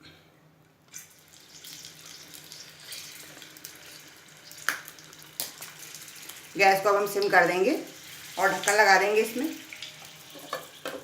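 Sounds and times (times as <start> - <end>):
stuffed peppers sizzling in oil: 0.9 - 11.0.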